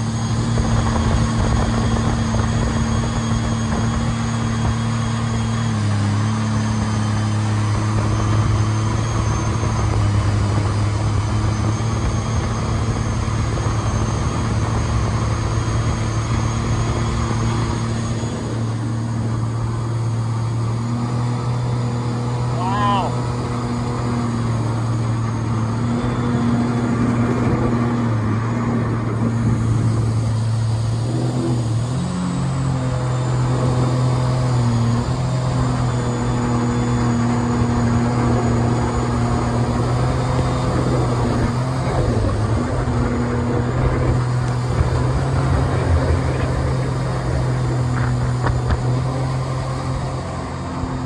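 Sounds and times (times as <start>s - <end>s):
jet boat engine running: 0.0s - 51.0s.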